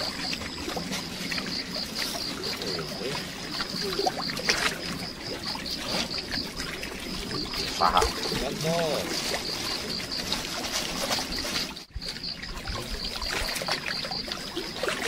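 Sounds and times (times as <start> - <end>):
waves lapping against rocks: 0.0 - 15.0.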